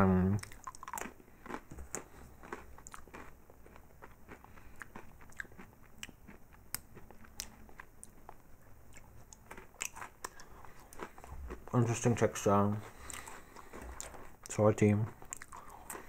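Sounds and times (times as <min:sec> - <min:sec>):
crunchy snack being chewed: 0:00.4 - 0:16.0.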